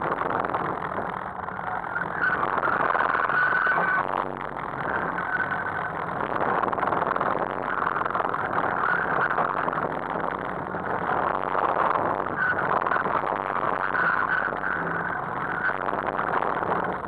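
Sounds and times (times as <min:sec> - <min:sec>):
car engine under changing throttle: 0:00.0 - 0:17.0.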